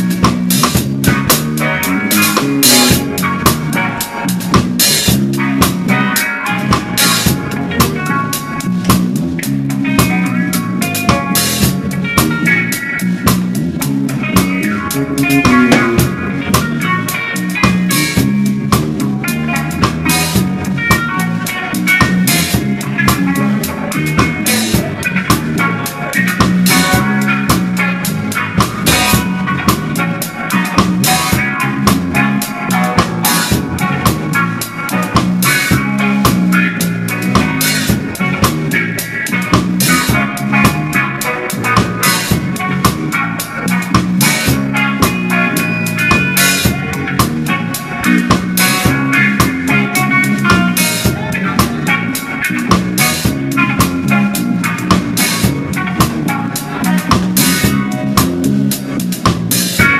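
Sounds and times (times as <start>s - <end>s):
drums and cymbals: 0.0s - 59.9s
reggae band playing: 0.0s - 59.9s.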